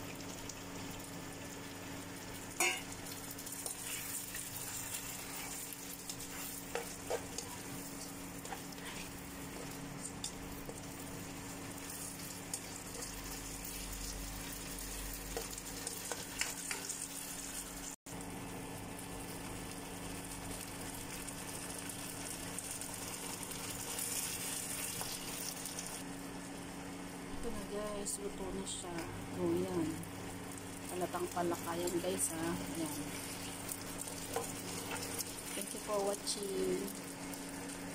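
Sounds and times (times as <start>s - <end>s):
meat sizzling in a wok: 0.0s - 26.1s, 29.4s - 37.9s.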